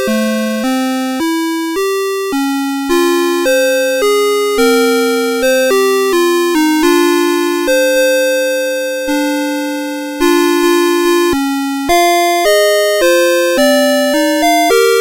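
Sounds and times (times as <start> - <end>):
alarm clock electronic melody: 0.0 - 15.0.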